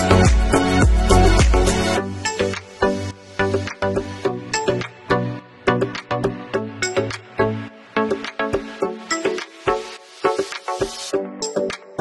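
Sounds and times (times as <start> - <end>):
rhythmic background music: 0.0 - 12.0.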